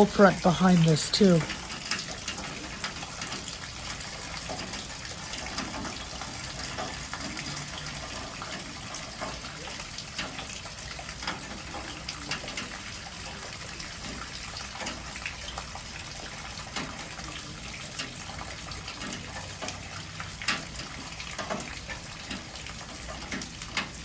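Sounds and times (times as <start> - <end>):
drips and splashes: 0.0 - 24.0
heavy rain: 0.0 - 24.0
water gushing from gutters: 0.0 - 24.0.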